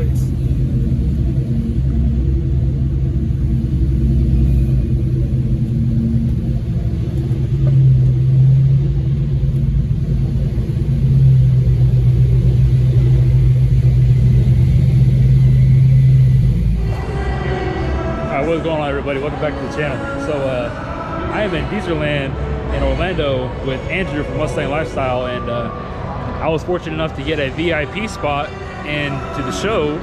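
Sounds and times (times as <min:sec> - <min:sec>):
car engine exhaust drone: 0:00.0 - 0:30.0.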